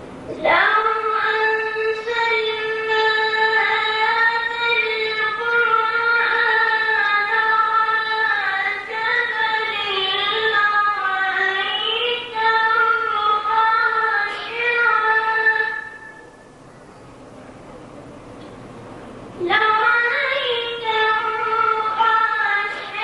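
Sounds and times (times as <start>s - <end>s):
boy chanting melodically: 0.3s - 16.3s, 19.4s - 23.0s.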